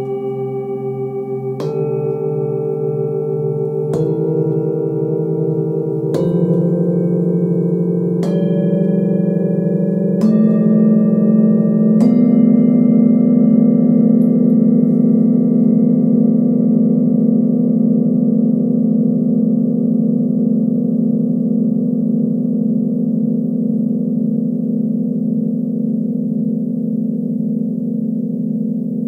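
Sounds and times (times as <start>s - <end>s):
singing bowls ringing: 0.0s - 29.0s.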